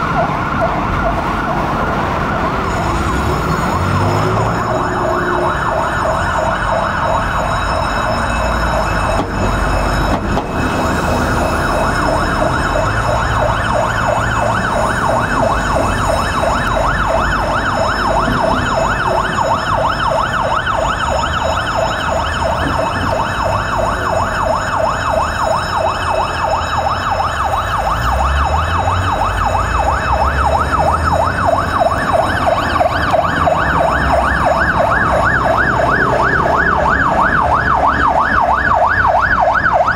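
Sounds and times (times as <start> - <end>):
fire engine siren yelping: 0.0 - 39.9.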